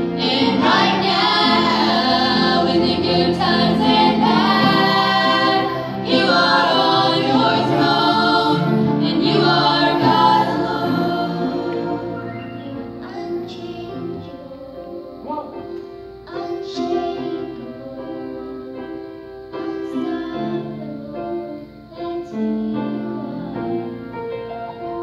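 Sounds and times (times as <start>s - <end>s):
group singing in harmony: 0.0s - 15.5s, 16.2s - 24.2s
piano accompaniment: 0.0s - 25.0s.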